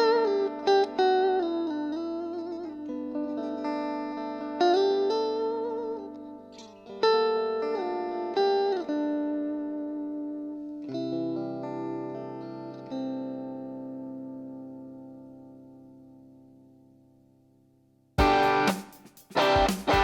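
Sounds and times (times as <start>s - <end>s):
electric guitar lead notes: 0.0s - 16.9s, 18.2s - 20.0s
guitar chord ringing: 0.0s - 20.0s.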